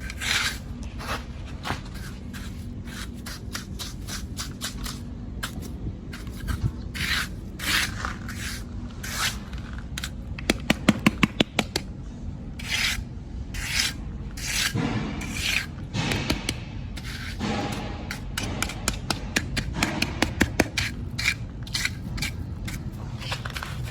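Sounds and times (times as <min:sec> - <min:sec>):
rough scraping strokes: 0:00.0 - 0:10.2, 0:12.6 - 0:23.9.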